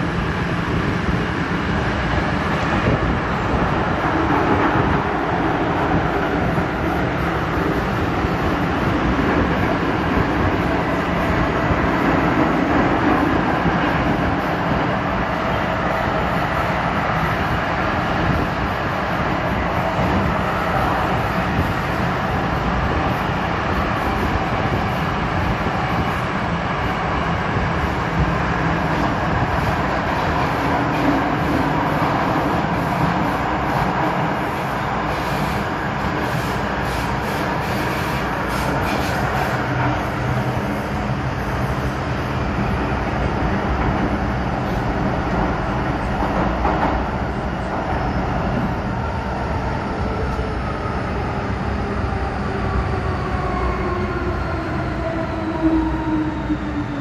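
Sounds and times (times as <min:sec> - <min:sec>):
train wheels rumbling in tunnel: 0:00.0 - 0:57.0.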